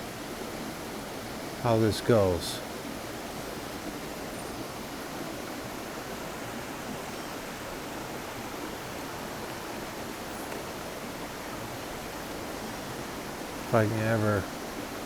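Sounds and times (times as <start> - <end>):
shallow river water rushing: 0.0 - 15.0.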